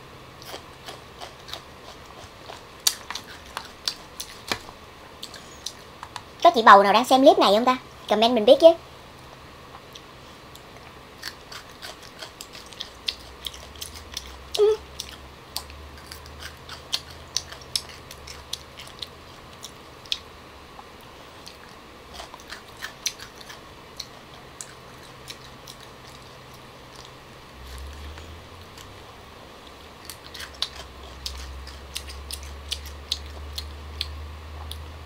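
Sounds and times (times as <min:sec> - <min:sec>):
crunching and chewing pods: 0:00.4 - 0:06.2, 0:09.7 - 0:34.9.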